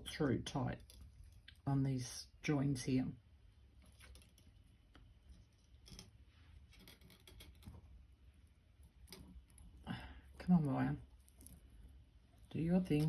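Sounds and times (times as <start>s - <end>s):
wire clicking and scratching: 0.0s - 1.7s, 3.6s - 13.0s.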